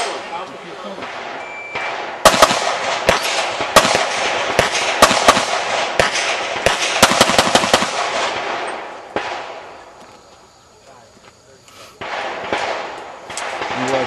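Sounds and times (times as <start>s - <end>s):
rapid pistol shots: 0.0s - 9.7s, 12.0s - 14.0s.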